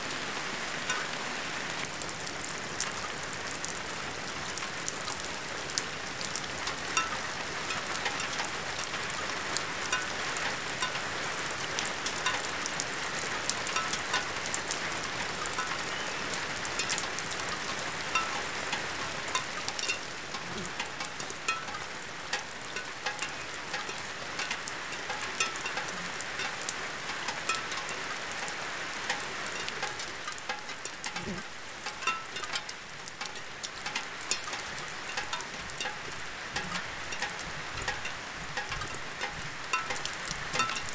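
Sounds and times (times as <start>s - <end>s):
dense crackling with pops: 1.8s - 40.9s.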